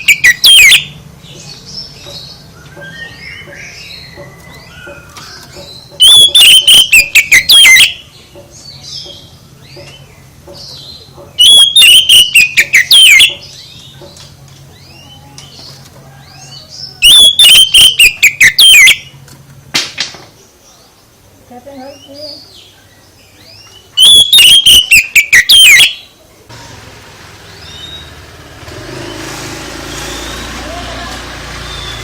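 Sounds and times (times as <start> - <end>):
songbird song with trills: 0.0 - 19.4, 20.2 - 26.5, 27.5 - 29.3, 29.9 - 32.0.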